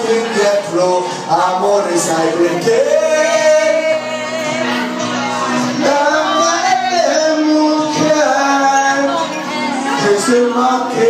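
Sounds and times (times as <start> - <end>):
amplified backing music: 0.0 - 11.0
man singing into microphone: 0.0 - 11.0.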